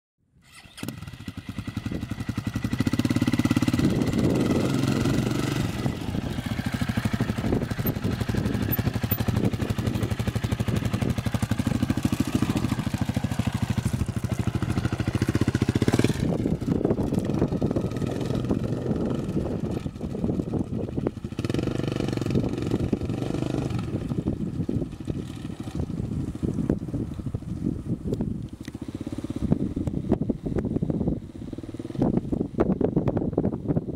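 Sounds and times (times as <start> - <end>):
quad engine revving: 0.4 - 26.3, 28.6 - 32.4.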